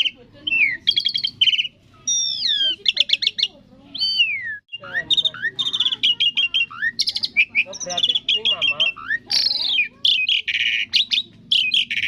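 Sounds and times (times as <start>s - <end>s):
starling singing: 0.0s - 12.0s.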